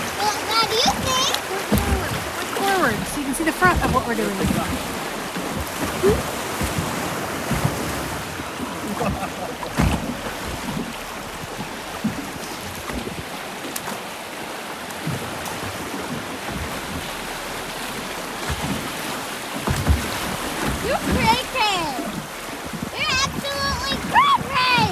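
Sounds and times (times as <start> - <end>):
river water rushing and splashing: 0.0 - 24.9
wind buffeting microphone: 0.0 - 24.9.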